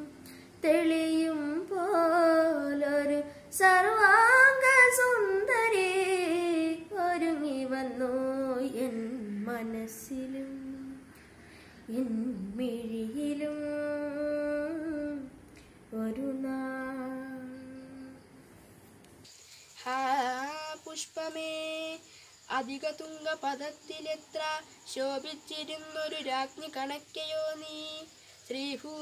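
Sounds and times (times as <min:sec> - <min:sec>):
boy singing unaccompanied: 0:00.0 - 0:11.1, 0:11.8 - 0:18.2, 0:19.7 - 0:29.0.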